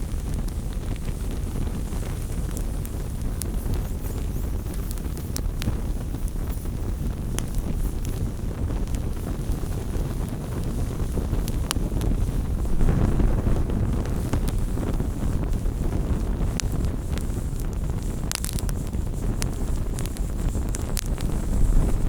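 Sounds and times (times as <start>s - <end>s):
fire crackling and popping: 0.0s - 22.0s
wood fire roaring: 0.0s - 22.0s.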